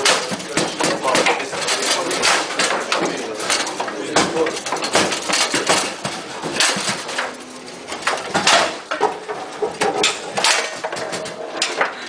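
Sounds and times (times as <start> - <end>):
foosball ball clacks: 0.0 - 12.0
foosball rods rattling: 0.0 - 12.0.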